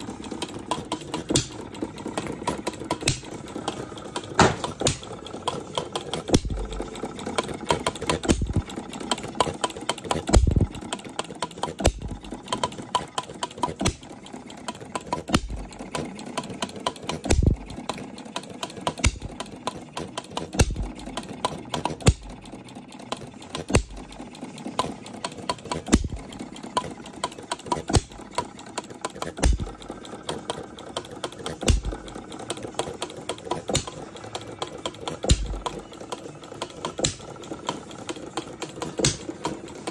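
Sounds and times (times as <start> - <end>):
hit-and-miss engine popping: 0.0 - 39.9
light mechanical clicking: 0.0 - 39.9.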